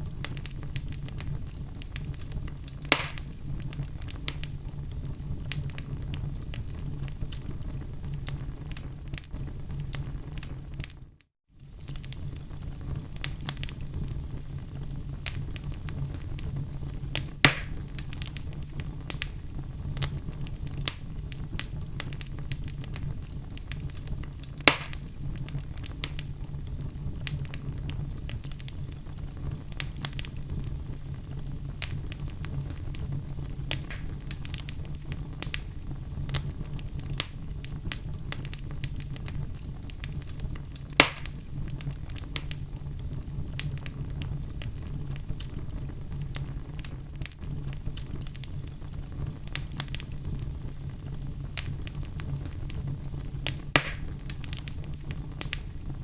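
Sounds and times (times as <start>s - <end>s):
loud pops from fire: 0.0s - 56.0s
low rumble of flames: 0.0s - 56.0s
wood fire crackling: 0.0s - 56.0s.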